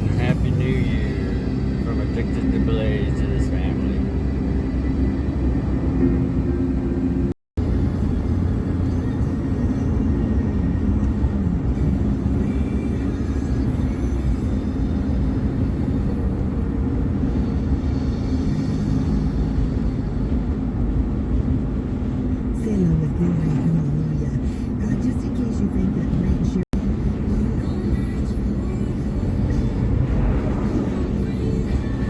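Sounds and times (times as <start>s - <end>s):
vehicle road and engine rumble: 0.0s - 32.0s.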